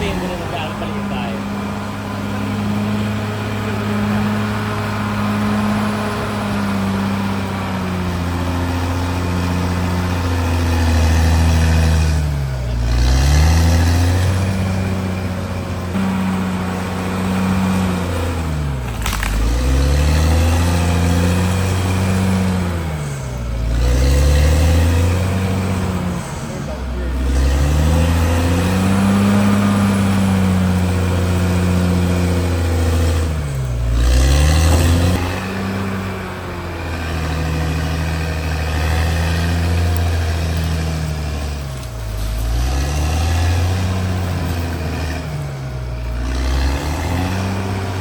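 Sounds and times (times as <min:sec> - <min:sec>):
bulldozer diesel engine: 0:00.0 - 0:48.0.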